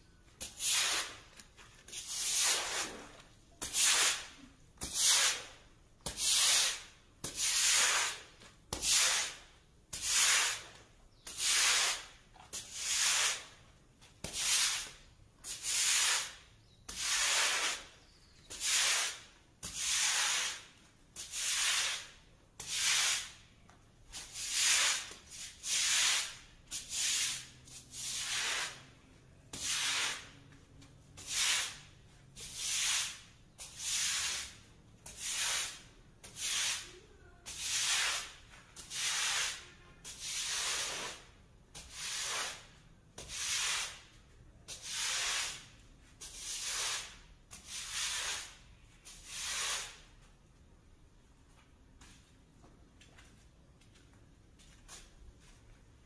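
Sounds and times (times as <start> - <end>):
push broom scrubbing wet concrete: 0.4 - 50.1.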